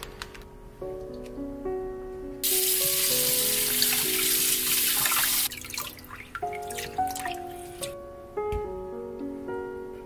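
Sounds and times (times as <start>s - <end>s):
light background music: 0.0s - 10.0s.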